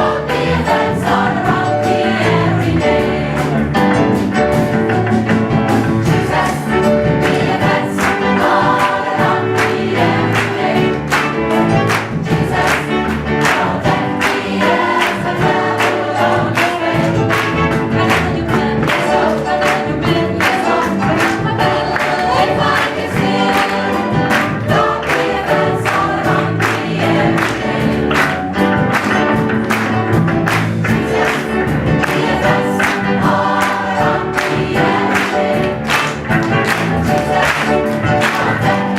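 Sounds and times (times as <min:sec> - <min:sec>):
gospel choir singing with band: 0:00.0 - 0:38.9.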